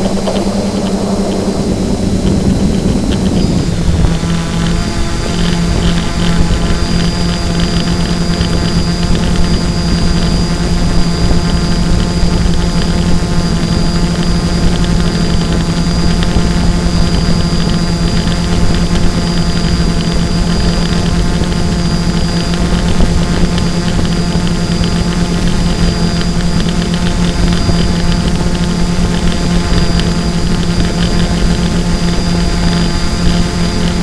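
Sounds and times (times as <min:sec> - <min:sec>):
drone propellers humming: 0:00.0 - 0:34.0
high motor whine: 0:00.0 - 0:34.0
low wind rumble: 0:00.0 - 0:34.0.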